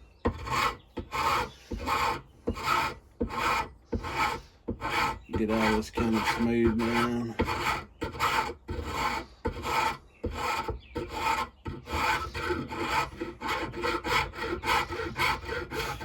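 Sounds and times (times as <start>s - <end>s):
file rasping on wood: 0.2s - 16.0s.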